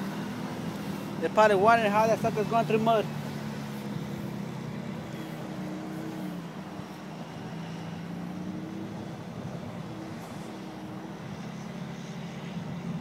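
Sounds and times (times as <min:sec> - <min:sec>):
truck diesel engine humming: 0:00.0 - 0:13.0.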